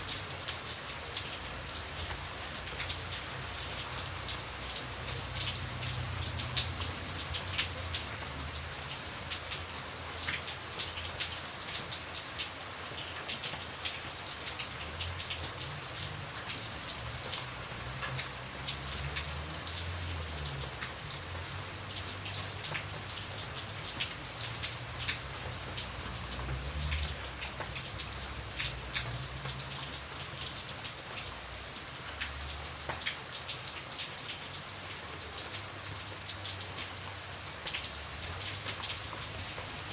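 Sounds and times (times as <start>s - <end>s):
raindrops ticking on hard surface: 0.0s - 39.9s.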